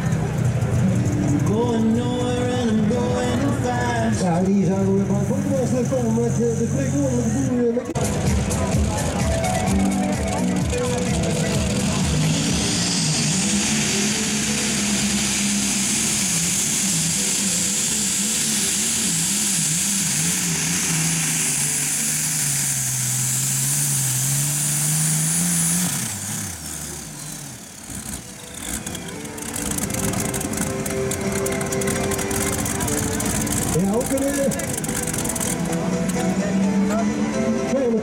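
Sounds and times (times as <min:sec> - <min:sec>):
tractor engine running flat out: 0:00.0 - 0:38.0
high whine: 0:00.5 - 0:38.0.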